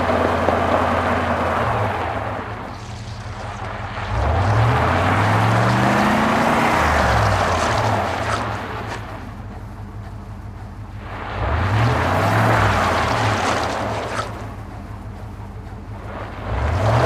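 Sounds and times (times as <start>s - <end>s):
car engine revving: 0.0s - 17.0s
spinning tyres hissing: 0.0s - 17.0s.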